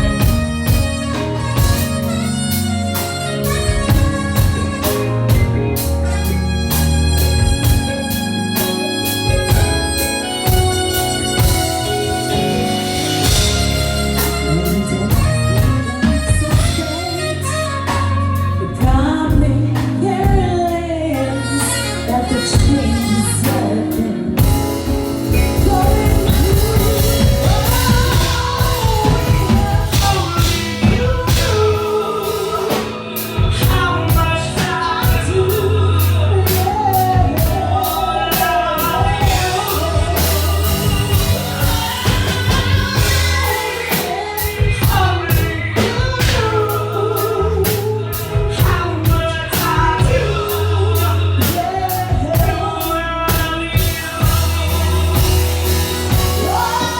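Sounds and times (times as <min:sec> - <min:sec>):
bass line: 0:00.0 - 0:56.9
drum kit beat: 0:00.0 - 0:56.9
person singing: 0:00.0 - 0:56.9.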